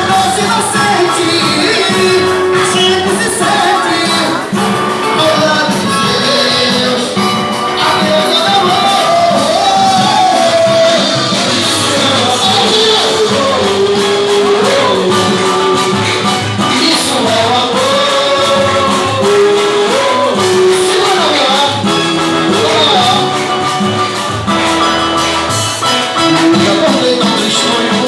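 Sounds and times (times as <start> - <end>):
lead singer singing: 0.0 - 28.0
live band music: 0.0 - 28.0.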